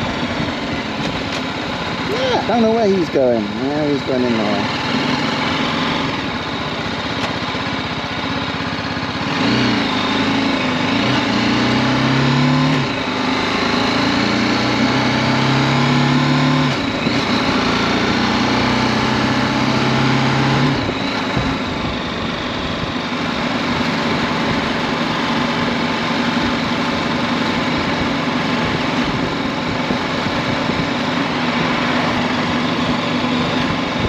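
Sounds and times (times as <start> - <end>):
motorcycle engine: 0.0 - 34.0.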